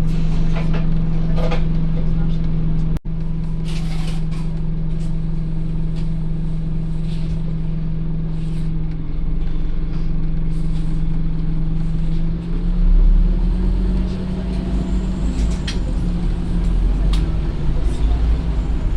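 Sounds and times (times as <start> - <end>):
bus diesel engine drone: 0.0 - 18.9.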